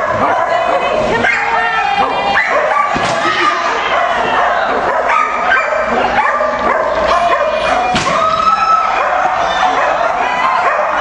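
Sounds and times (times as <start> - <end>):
many dogs barking: 0.0 - 7.9, 8.8 - 11.0.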